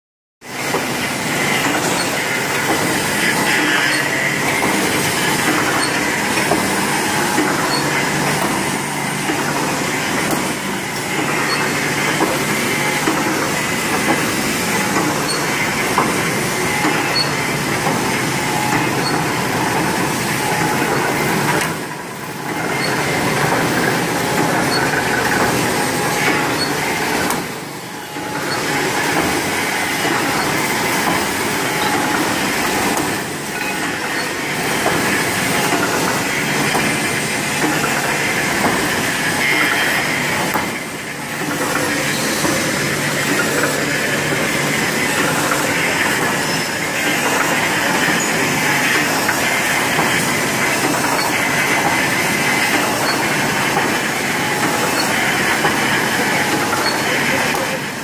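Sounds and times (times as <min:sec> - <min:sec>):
machine mechanical clatter: 0:00.5 - 0:58.0.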